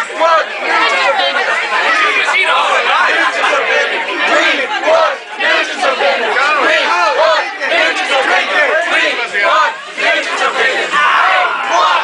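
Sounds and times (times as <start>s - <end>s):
young men yelling and shouting: 0.0s - 12.0s.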